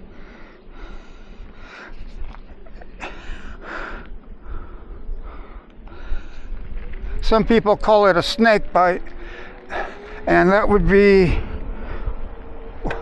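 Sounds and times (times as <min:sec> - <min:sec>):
cyclist breathing hard: 0:00.0 - 0:08.0, 0:08.6 - 0:13.0
low rumble on microphone: 0:01.1 - 0:13.0.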